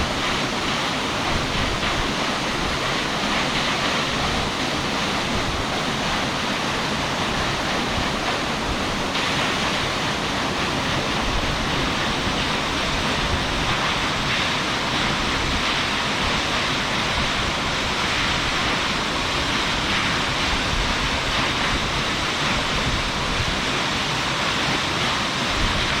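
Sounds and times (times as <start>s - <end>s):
waterfall crashing into pool: 0.0s - 26.0s.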